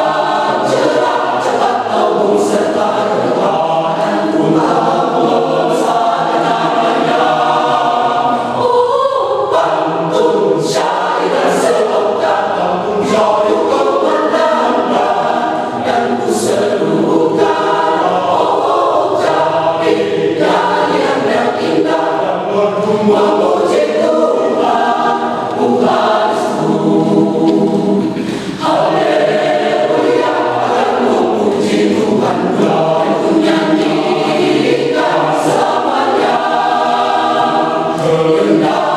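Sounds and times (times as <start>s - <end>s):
church choir singing: 0.0s - 38.9s.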